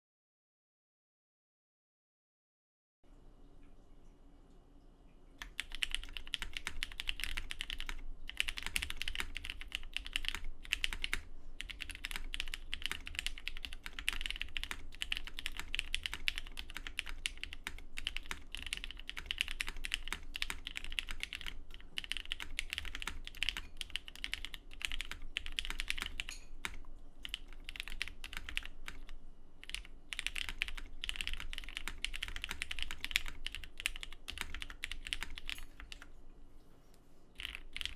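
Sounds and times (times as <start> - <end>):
mechanical keyboard typing: 5.4 - 36.1, 37.4 - 37.9.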